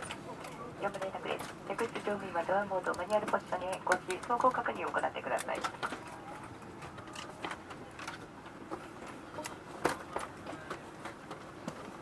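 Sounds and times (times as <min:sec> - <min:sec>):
low cabin background noise: 0:00.0 - 0:12.0.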